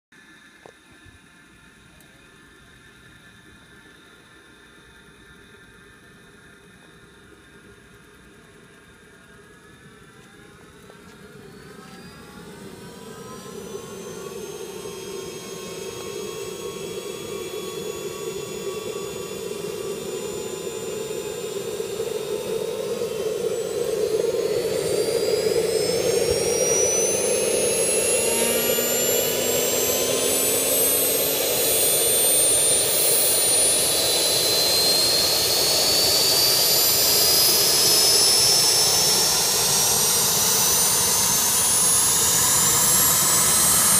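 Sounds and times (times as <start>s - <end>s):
jet turbine spooling up: 0.2s - 43.9s.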